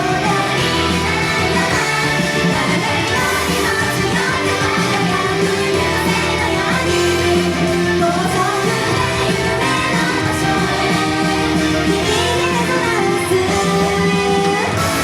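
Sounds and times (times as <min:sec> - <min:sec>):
pop song sung live with band: 0:00.0 - 0:15.0.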